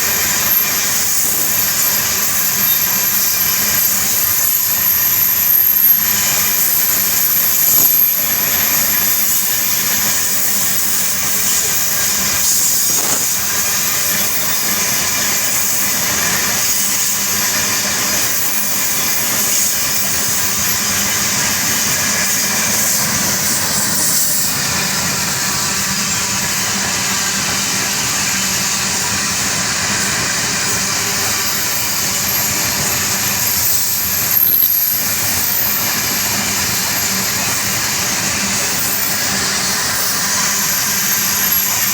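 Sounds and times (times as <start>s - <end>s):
train wagons rolling on rails: 0.0s - 41.9s.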